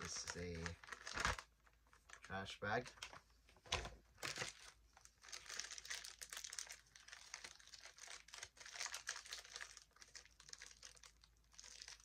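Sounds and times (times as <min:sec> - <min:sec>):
plastic packets crinkling: 0:00.0 - 0:03.2, 0:04.2 - 0:12.0.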